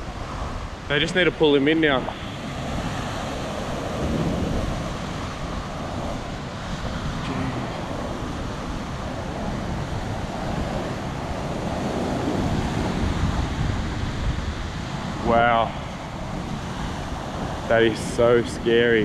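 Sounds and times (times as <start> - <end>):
surf washing against rocks: 0.0 - 19.0
wind buffeting microphone: 0.0 - 19.0.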